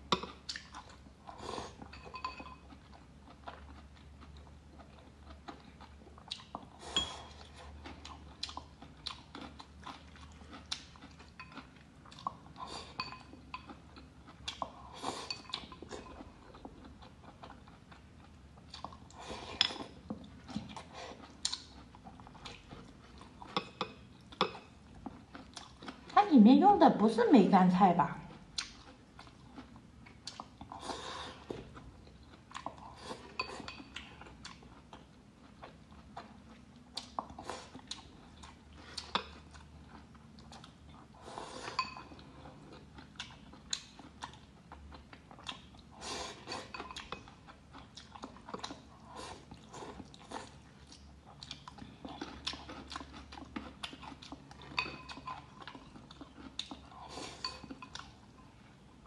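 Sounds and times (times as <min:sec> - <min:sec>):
person chewing food: 0:00.0 - 0:26.2, 0:28.3 - 0:59.0.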